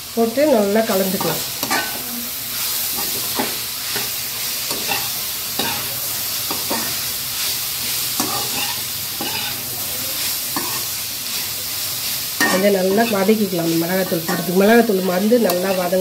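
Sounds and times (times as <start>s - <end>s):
vegetables sizzling in hot oil: 0.0s - 16.0s
spatula scraping pan: 1.1s - 2.0s, 2.6s - 5.9s, 6.5s - 11.5s, 12.4s - 16.0s.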